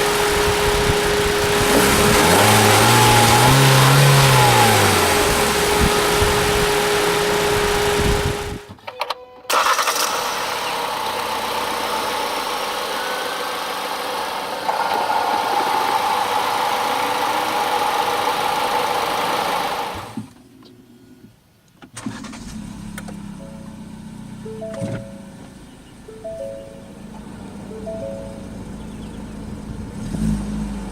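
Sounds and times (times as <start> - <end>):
car engine running: 0.0 - 8.7, 10.2 - 20.2, 22.3 - 30.9.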